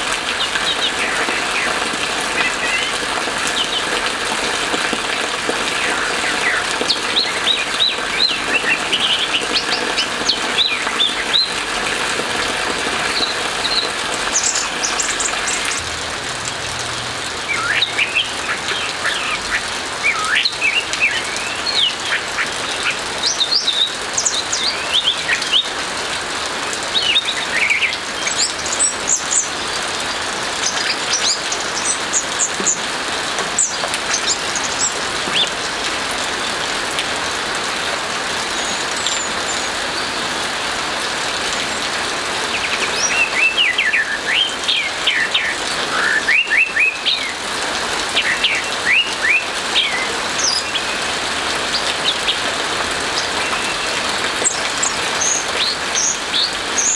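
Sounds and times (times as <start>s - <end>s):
rain hissing: 0.0s - 56.9s.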